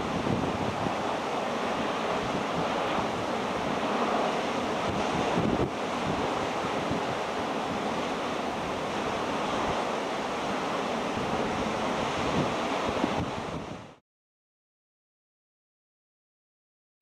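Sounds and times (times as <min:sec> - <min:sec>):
surf breaking over rocks: 0:00.0 - 0:13.9
wind buffeting microphone: 0:00.0 - 0:14.0.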